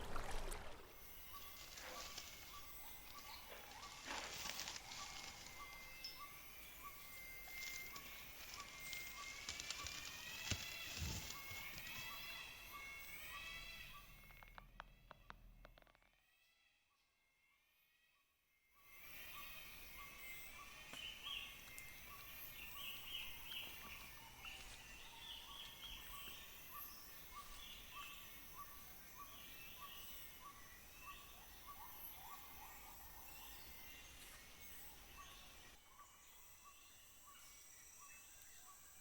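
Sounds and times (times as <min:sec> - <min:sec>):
high insect drone: 0:00.9 - 0:14.6, 0:18.8 - 0:39.0.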